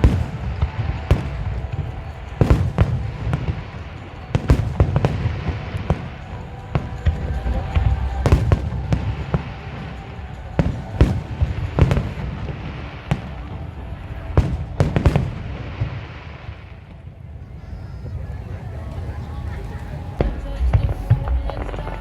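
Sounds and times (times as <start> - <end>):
fireworks bangs: 0.0 - 22.0
heavy low rumble: 0.0 - 22.0.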